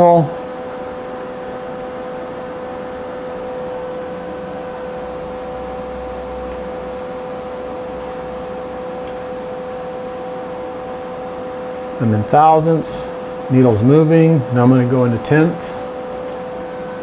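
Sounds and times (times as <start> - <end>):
steady electrical hum with tones: 0.0 - 17.0.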